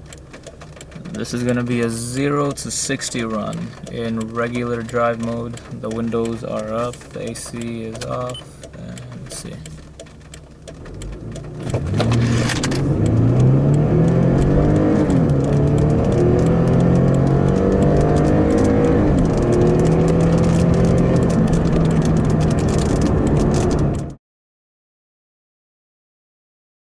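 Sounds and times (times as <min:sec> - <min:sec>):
car engine accelerating: 0:00.0 - 0:24.2.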